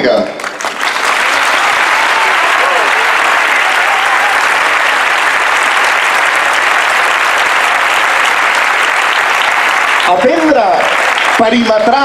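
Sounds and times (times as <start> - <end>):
large crowd applauding: 0.0 - 12.0.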